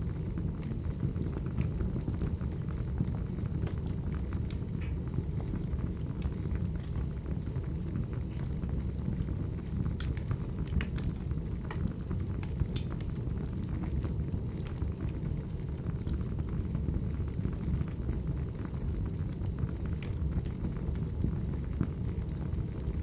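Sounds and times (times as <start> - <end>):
low rumble of flames: 0.0 - 23.0
firewood crackling and popping: 0.1 - 23.0.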